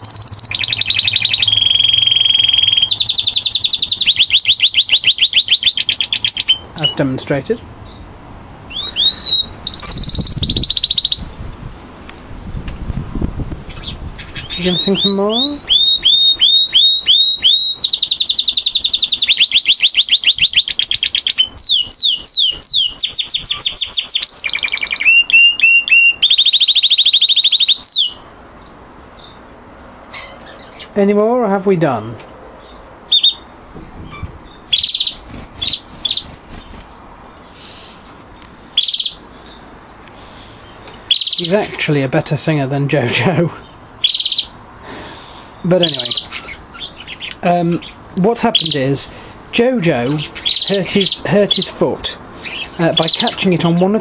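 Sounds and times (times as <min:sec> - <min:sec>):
canary singing: 0:00.0 - 0:11.4, 0:13.6 - 0:31.5, 0:32.6 - 0:42.1, 0:43.6 - 0:54.0.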